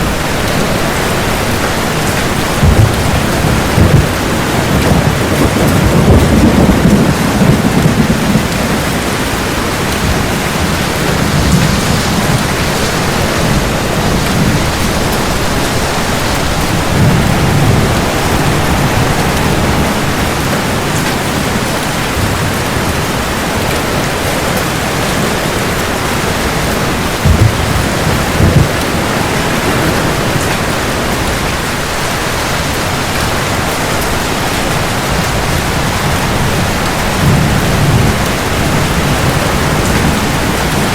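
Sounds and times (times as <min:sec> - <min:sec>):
heavy rain falling: 0:00.0 - 0:40.9
thunder rumbles: 0:00.0 - 0:40.9.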